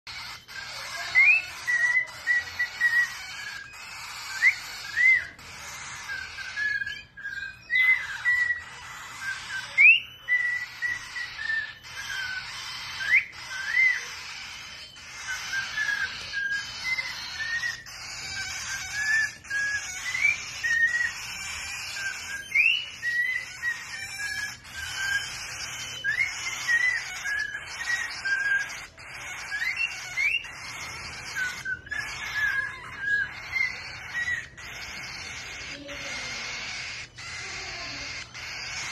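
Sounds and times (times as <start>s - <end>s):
cockatiel whistling a tune: 0.1s - 38.9s.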